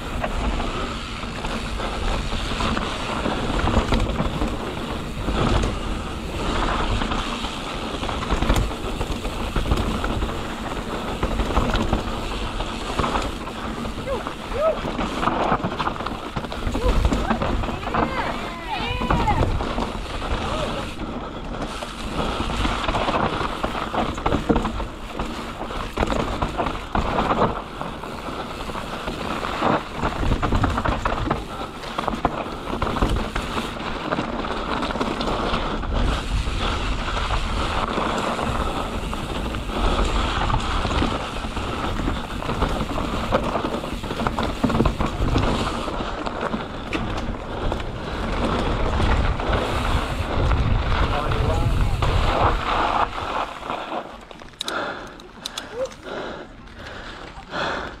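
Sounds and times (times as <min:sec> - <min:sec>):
bike rattling over bumps: 0:00.0 - 0:58.0
tyres crunching over stones: 0:01.5 - 0:58.0.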